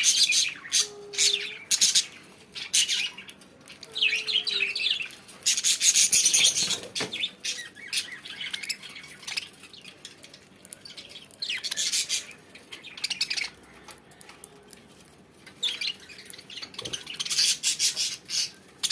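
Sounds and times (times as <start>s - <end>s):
budgerigars chirping and chattering: 0.0s - 13.6s, 15.5s - 18.9s.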